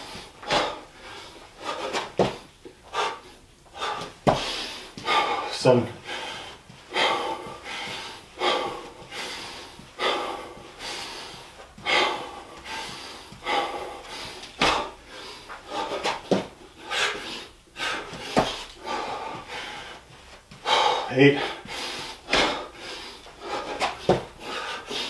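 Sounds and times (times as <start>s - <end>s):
man panting hard: 0.0s - 25.0s.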